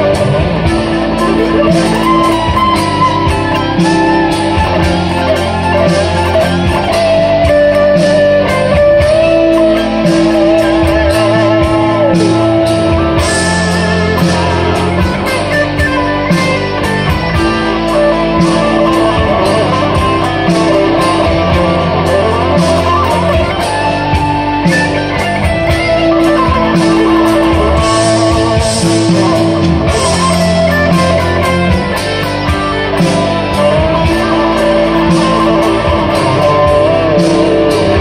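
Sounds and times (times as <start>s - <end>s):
loud electric guitar rock improvisation: 0.0s - 38.0s.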